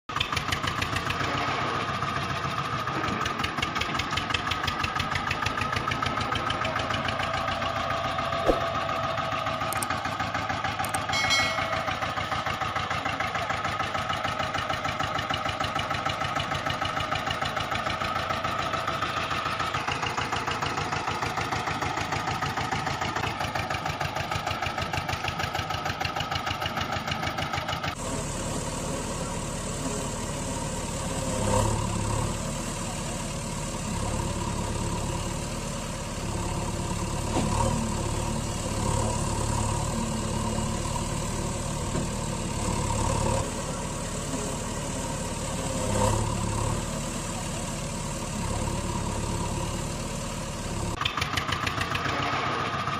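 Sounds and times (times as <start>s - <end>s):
tractor engine idling: 0.1s - 52.9s.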